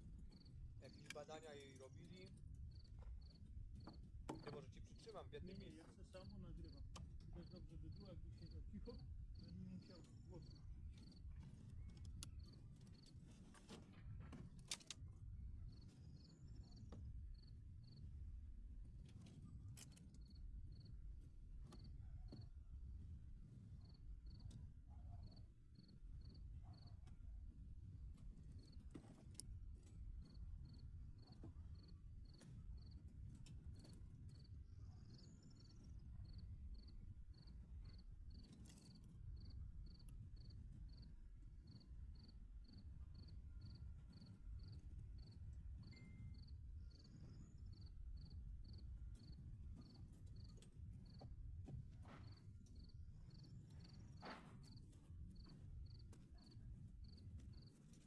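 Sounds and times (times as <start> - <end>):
faint cricket chirping: 0.3 - 13.2, 15.6 - 18.2, 19.7 - 21.0, 21.7 - 22.6, 23.7 - 27.2, 27.8 - 51.4, 52.0 - 58.0.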